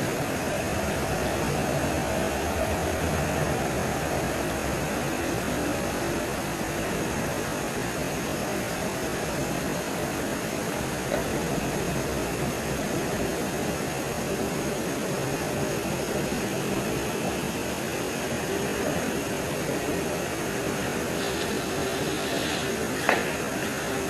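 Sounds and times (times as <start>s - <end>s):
night forest hiss: 0.0s - 24.0s.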